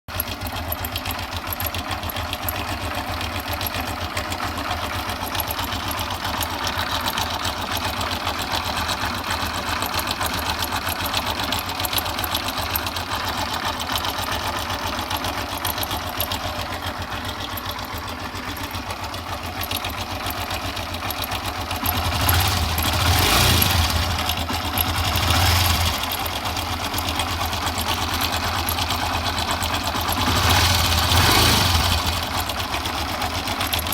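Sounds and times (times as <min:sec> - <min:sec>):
motorcycle engine idling: 0:00.1 - 0:33.9
motorcycle engine revving: 0:00.2 - 0:33.9.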